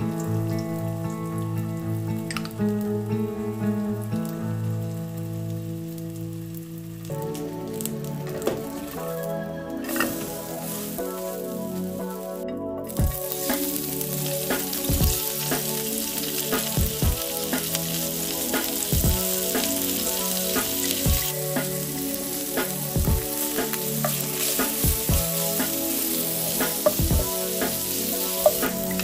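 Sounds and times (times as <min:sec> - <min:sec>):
leeks sizzling in hot oil: 0:03.9 - 0:09.2, 0:09.9 - 0:12.3, 0:12.9 - 0:29.0.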